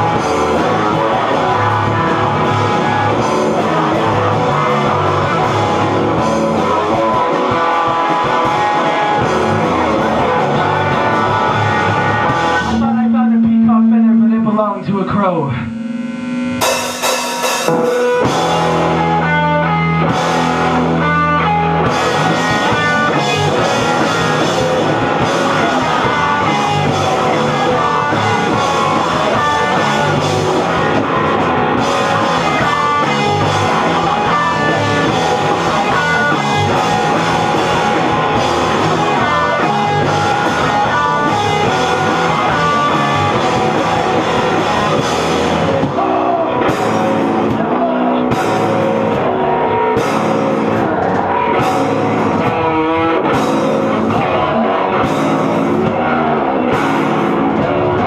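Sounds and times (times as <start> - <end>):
distorted electric guitar: 0.0 - 58.0
drum kit: 0.0 - 58.0.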